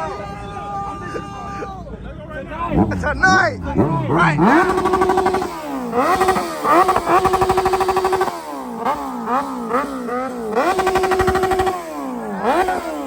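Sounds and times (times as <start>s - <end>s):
car engine revving: 2.4s - 13.0s.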